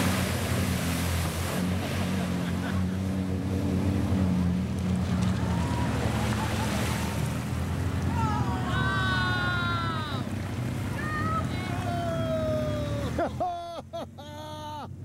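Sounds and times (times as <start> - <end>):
water churning and splashing: 0.0 - 13.6
utv engine running: 0.0 - 15.0.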